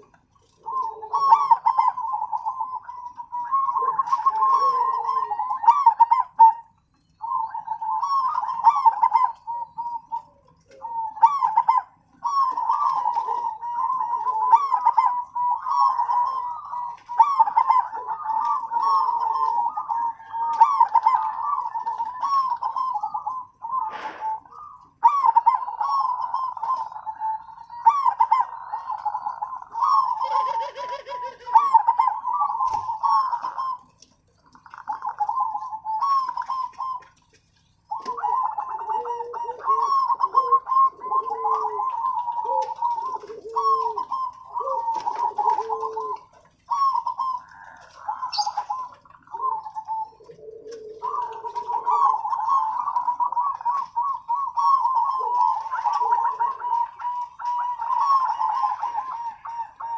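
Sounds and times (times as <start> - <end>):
lower-pitched cooing: 0.0 - 34.0, 37.8 - 59.9
doves cooing: 0.0 - 59.9.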